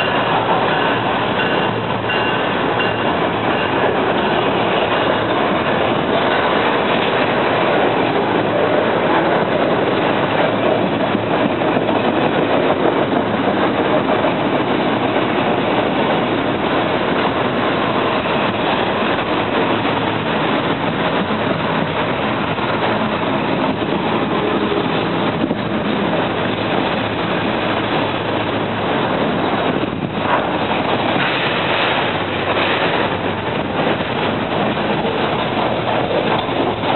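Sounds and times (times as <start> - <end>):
freight train cars on rails: 0.0 - 36.9
wind on microphone: 0.0 - 36.9.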